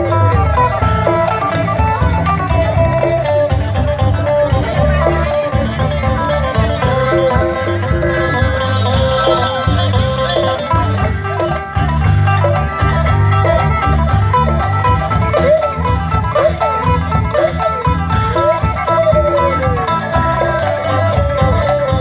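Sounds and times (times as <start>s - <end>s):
barrel drums beating: 0.0s - 22.0s
lutes picking a quick melody: 0.0s - 22.0s.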